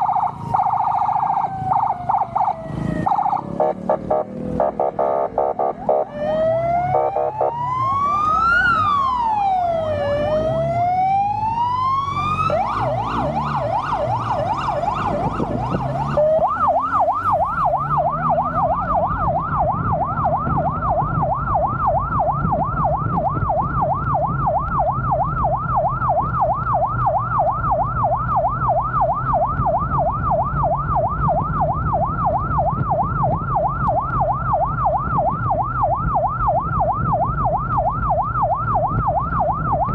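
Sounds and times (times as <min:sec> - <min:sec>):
emergency siren wailing and yelping: 0:00.0 - 0:39.9
vehicle engine drone: 0:00.0 - 0:39.9.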